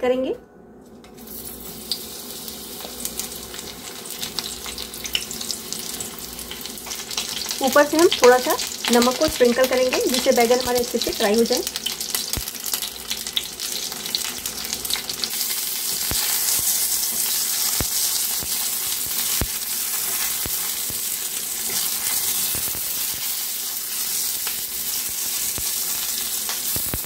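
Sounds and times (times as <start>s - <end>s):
eggplant sizzling in hot oil: 1.2s - 27.0s.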